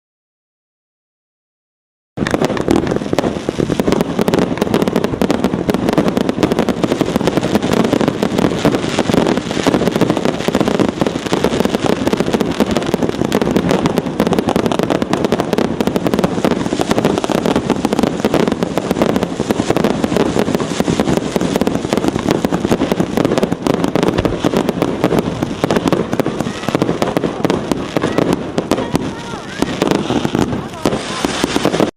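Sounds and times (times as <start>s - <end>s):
firework crackling pops: 2.2s - 31.9s.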